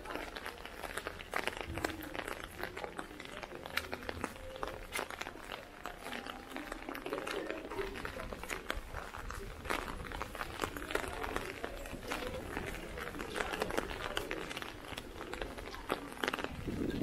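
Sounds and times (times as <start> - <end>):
faint voices: 0.0 - 17.0
rain tapping on an umbrella: 0.0 - 17.0.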